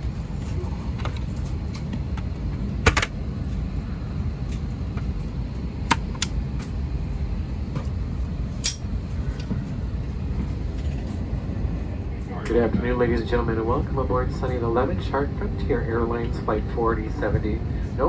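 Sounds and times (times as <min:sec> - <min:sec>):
low rumble of airliner cabin: 0:00.0 - 0:18.0.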